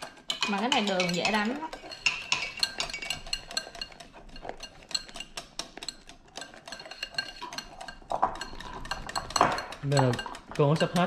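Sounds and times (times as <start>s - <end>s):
whisk clinking against ceramic bowl: 0.0s - 11.0s.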